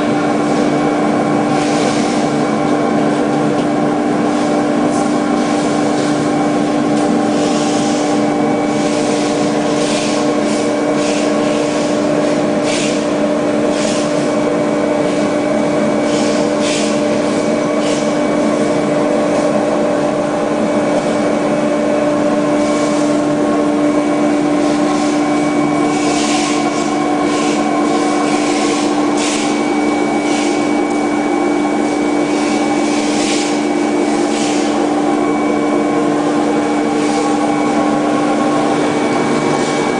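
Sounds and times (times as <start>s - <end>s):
machine motor hum: 0.0s - 39.9s.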